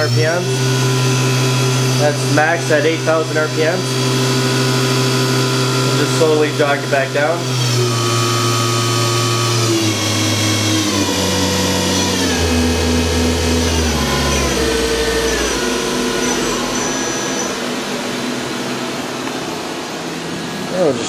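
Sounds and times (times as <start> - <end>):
machine spindle whining: 0.0 - 21.0.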